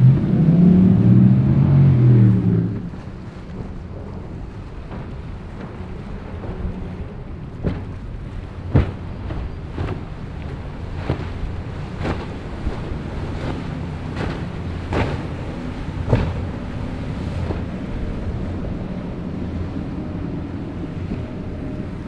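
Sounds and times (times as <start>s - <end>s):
boat engines droning: 0.0s - 22.0s
hull slapping on waves: 0.0s - 22.0s
water spray and surf: 0.0s - 22.0s
wind buffeting microphone: 0.0s - 22.0s.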